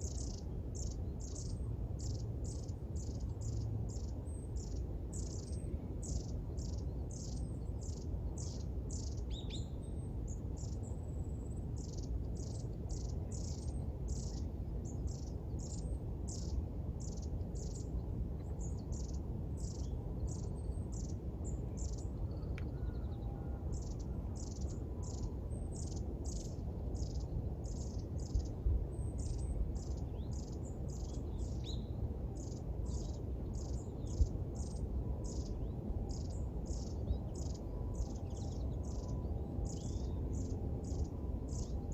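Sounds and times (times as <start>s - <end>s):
low background rumble: 0.0s - 41.9s.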